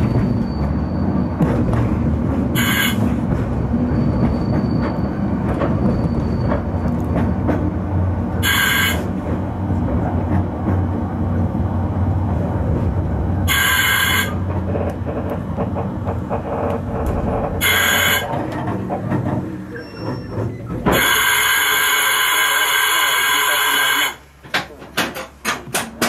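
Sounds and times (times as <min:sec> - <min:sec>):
train clicks: 0:00.0 - 0:21.8, 0:24.4 - 0:26.0
train rumbling: 0:00.0 - 0:26.0.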